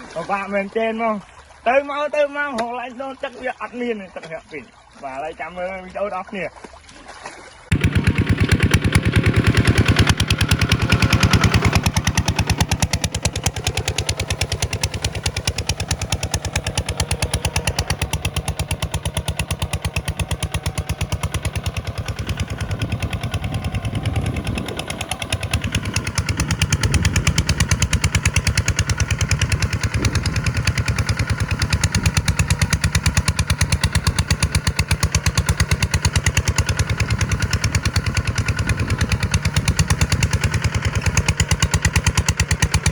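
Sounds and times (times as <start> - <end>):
tractor diesel engine running: 7.7 - 42.9.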